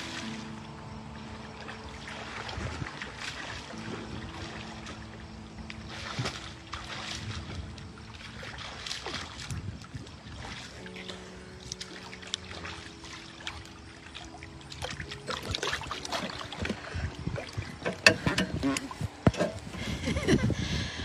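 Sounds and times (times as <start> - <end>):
water splashing from swimming: 0.0 - 20.2.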